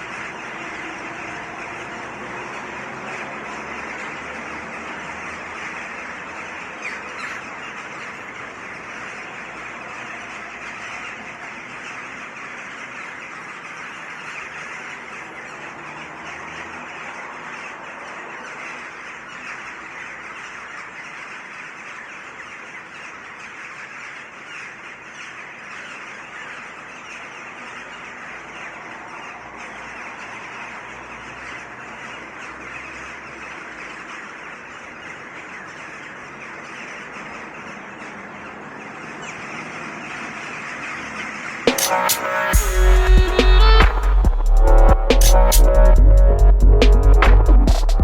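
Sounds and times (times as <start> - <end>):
city traffic hum: 0.0 - 20.2, 27.6 - 48.0
birds chirping in chorus: 0.0 - 44.6.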